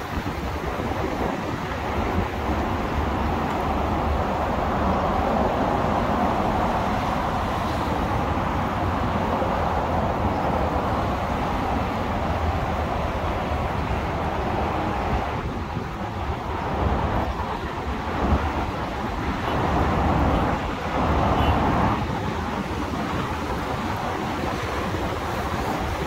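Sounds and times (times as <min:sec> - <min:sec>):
passing vehicles rushing: 0:00.0 - 0:26.0.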